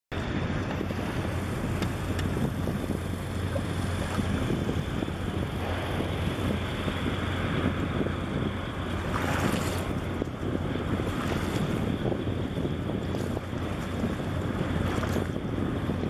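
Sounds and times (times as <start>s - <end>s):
low rumble: 0.1s - 16.0s
wind buffeting the microphone: 0.1s - 16.0s.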